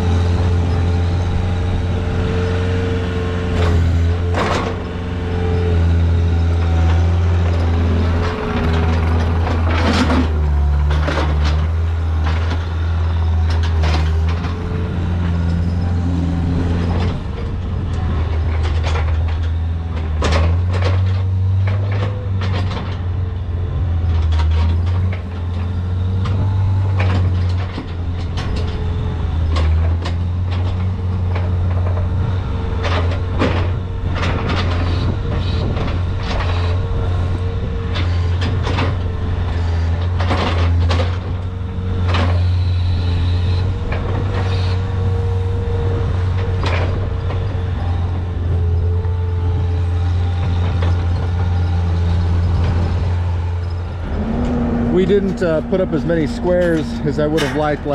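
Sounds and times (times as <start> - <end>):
farm machine engine humming: 0.0 - 57.9
metal clanks and knocks: 3.6 - 5.0, 6.5 - 23.1, 24.0 - 57.9.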